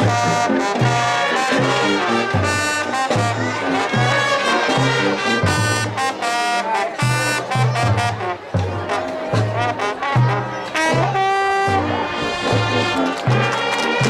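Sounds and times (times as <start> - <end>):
low brass bass line: 0.0 - 14.0
marching band playing: 0.0 - 14.0.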